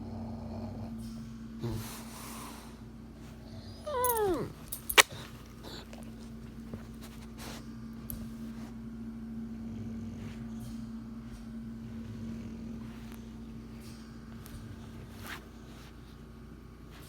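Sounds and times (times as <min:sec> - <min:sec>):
pet whining: 0:00.0 - 0:08.7, 0:09.4 - 0:16.2
steady low hum: 0:00.0 - 0:17.0.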